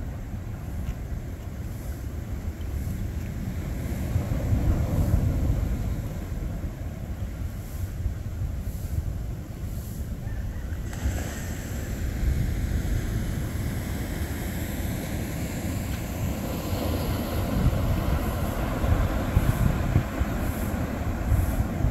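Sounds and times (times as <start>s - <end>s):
wind buffeting microphone: 0.0s - 21.9s.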